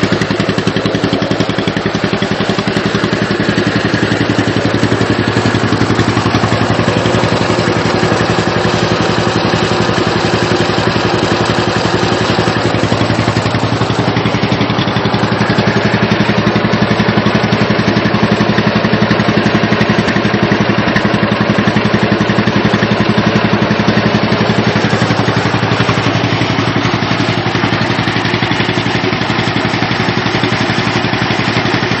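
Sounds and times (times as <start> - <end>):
two-cylinder engine fast idle: 0.0 - 32.0.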